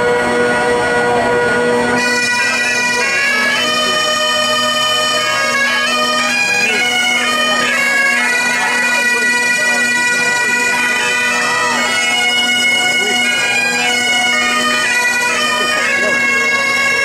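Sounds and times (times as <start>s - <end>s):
bagpipe chanter melody: 0.0s - 17.0s
bagpipe drones: 0.0s - 17.0s.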